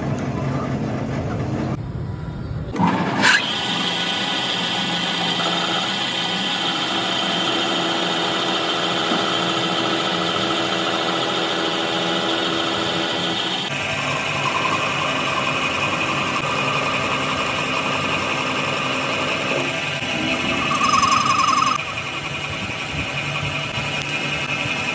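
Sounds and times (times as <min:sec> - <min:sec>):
metalworking machine running: 0:02.7 - 0:24.9.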